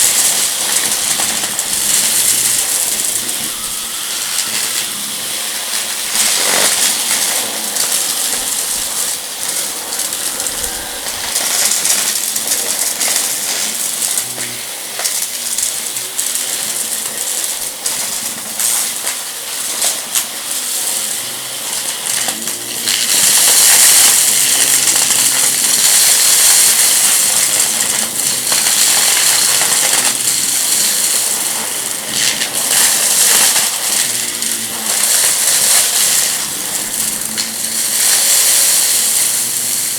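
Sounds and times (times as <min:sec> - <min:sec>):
debris crackling and rattling: 0:00.0 - 0:39.9
vacuum cleaner running: 0:00.0 - 0:39.9.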